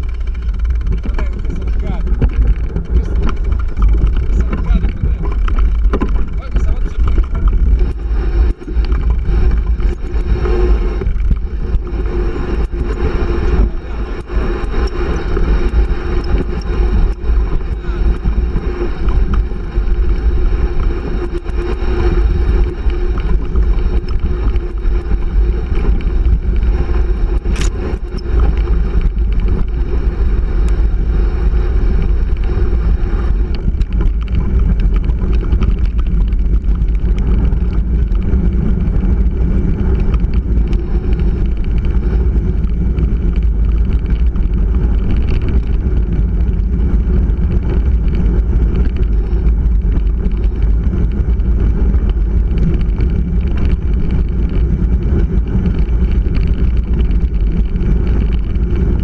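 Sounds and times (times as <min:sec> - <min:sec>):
bike rattling over stones: 0:00.0 - 0:59.0.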